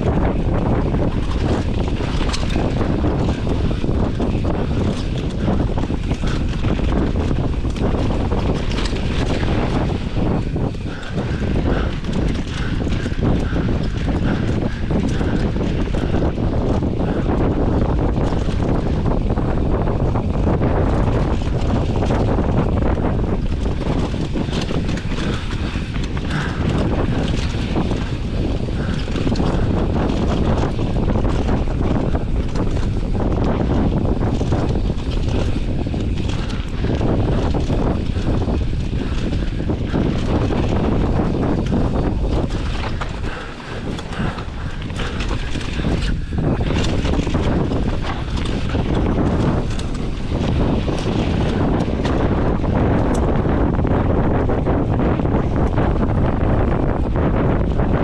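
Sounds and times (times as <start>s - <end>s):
bike clattering and chain rattle: 0.0s - 58.0s
wind rushing over microphone: 0.0s - 58.0s.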